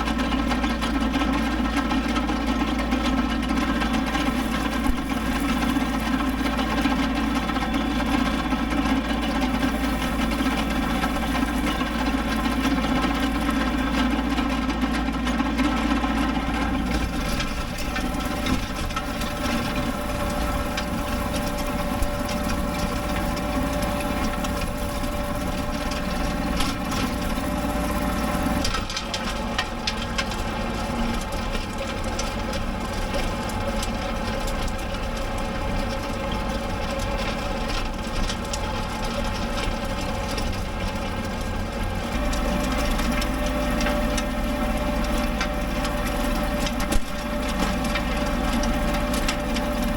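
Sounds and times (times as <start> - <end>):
diesel tractor with rotary tiller: 0.0 - 49.9.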